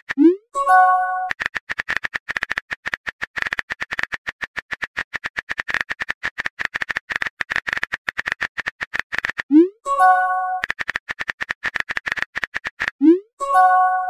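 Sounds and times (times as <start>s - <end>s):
phone keyboard typing clicks: 0.0s - 14.0s.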